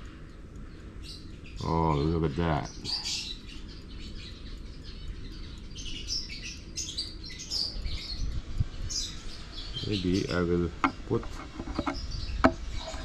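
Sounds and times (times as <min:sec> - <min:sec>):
low background rumble: 0:00.0 - 0:13.0
small birds chirping: 0:00.0 - 0:13.0.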